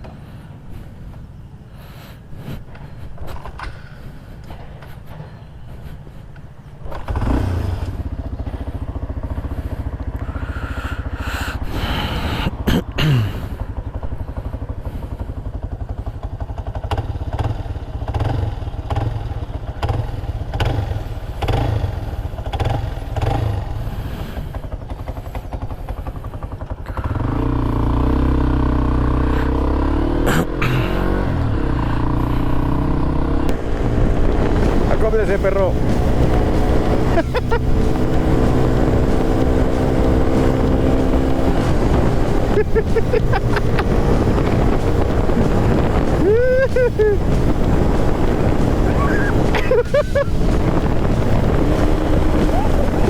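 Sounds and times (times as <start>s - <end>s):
motorcycle engine running: 2.4s - 53.0s.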